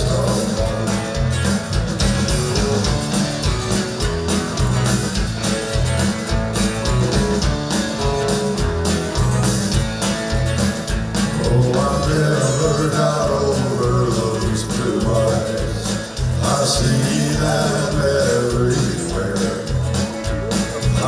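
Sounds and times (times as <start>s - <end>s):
bass guitar: 0.0s - 21.0s
guitars playing: 0.0s - 21.0s
steady shuffling drum beat: 0.0s - 21.0s.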